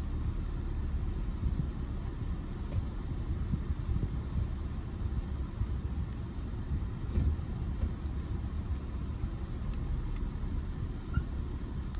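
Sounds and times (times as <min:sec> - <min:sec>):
car cabin rumble: 0:00.0 - 0:11.9.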